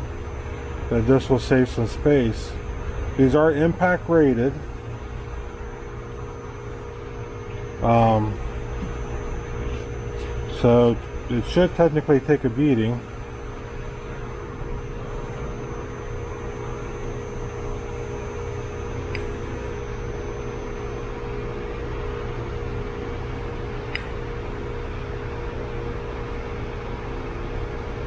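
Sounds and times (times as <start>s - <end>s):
steady machine hum with hiss: 0.0s - 28.0s.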